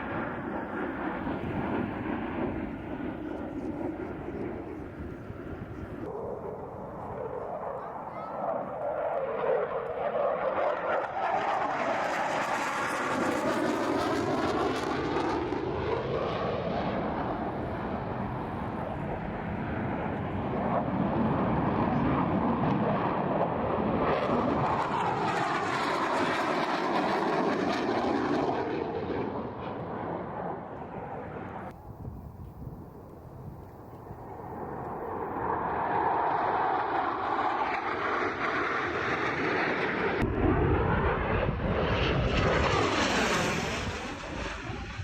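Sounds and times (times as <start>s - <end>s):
jets roaring overhead: 0.0s - 45.0s.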